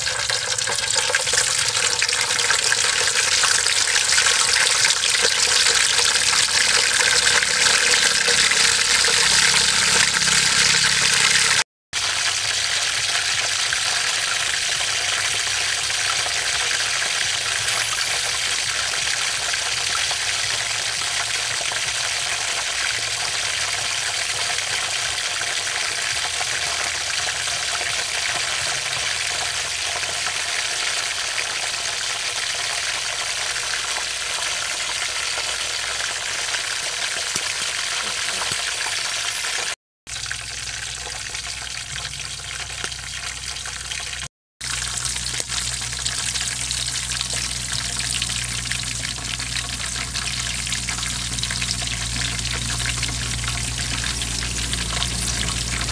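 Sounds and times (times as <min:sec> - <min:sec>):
deep-frying sizzle in oil: 0:00.0 - 0:55.9.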